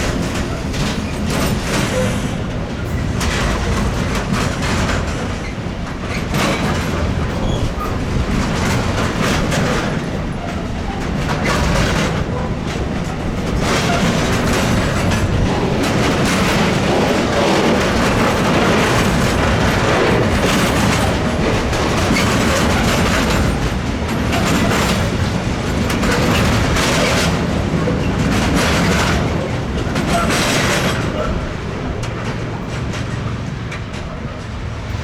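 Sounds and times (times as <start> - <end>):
freight train rolling past: 0.0 - 35.0
wheels clattering over rail joints: 0.0 - 35.0.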